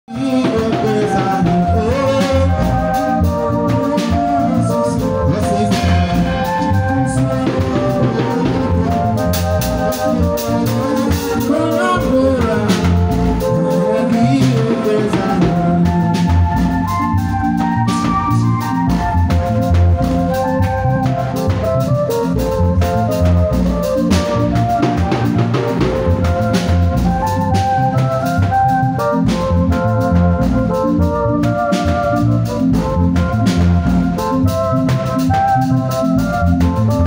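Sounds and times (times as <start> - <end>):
bass line: 0.0 - 37.0
electronic keyboard chords: 0.1 - 37.0
steady drum beat: 0.1 - 37.0.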